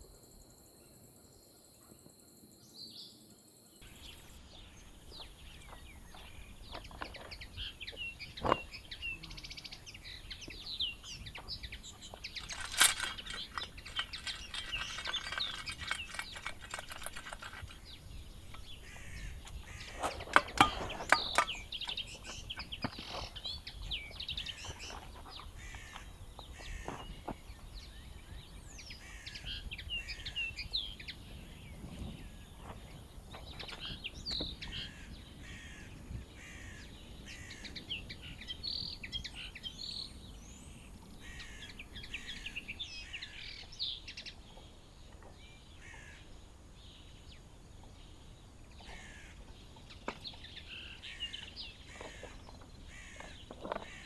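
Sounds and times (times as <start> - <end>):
songbirds chirping and trilling: 0.5 - 54.0.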